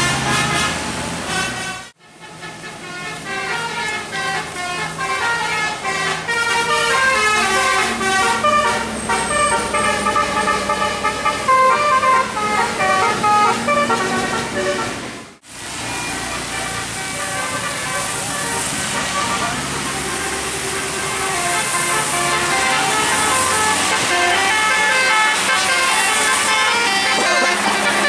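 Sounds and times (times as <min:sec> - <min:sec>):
bus engine running: 0:00.0 - 0:28.0
bus horn playing a melody: 0:00.0 - 0:28.0.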